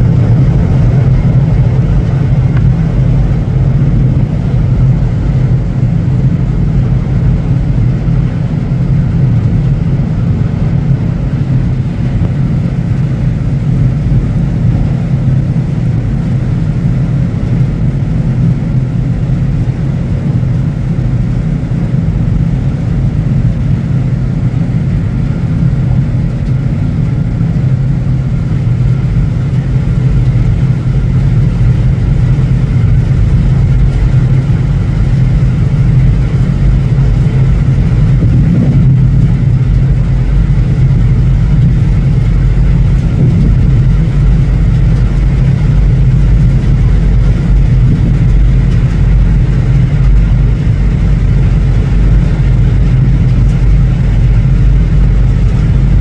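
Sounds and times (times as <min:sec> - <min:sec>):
ship engine drone: 0:00.0 - 0:56.0.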